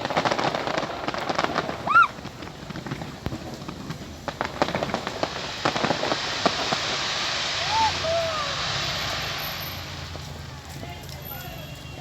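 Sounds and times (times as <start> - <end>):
fireworks popping and crackling: 0.0 - 12.0
rain hiss: 0.0 - 12.0.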